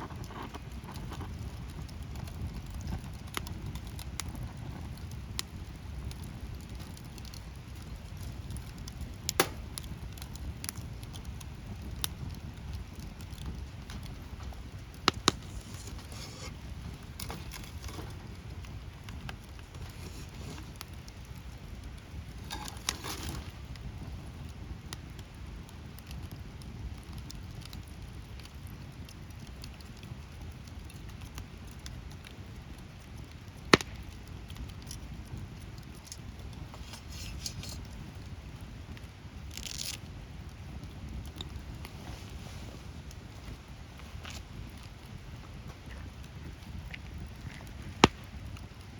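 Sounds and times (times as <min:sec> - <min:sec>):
campfire crackling and popping: 0:00.0 - 0:48.9
low fire rumble: 0:00.0 - 0:48.9.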